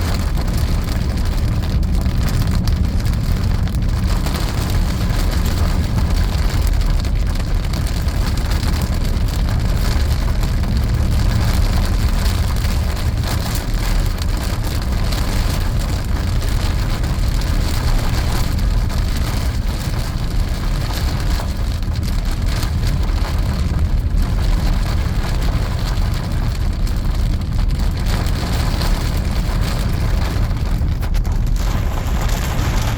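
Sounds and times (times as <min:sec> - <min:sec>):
heavy rain pelting down: 0:00.0 - 0:32.9
wind rumbling on microphone: 0:00.0 - 0:32.9.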